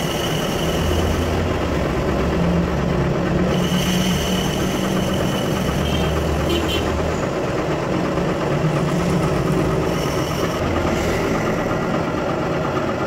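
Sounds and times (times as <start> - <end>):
metal lathe running: 0.0 - 13.0.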